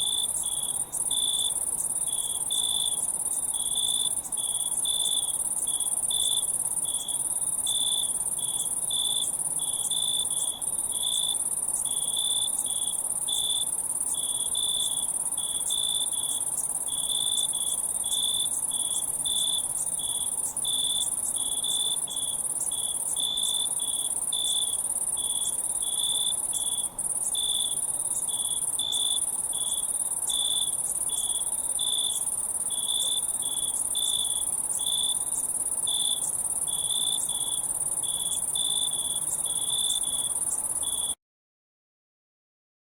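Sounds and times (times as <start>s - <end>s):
high-pitched insect chorus: 0.0s - 41.1s
cricket chirping: 0.0s - 41.2s.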